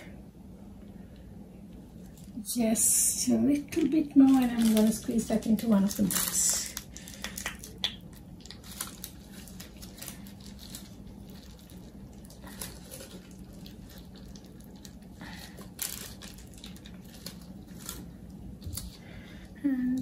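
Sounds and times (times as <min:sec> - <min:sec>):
plastic piping bag rustling: 0:02.0 - 0:19.5.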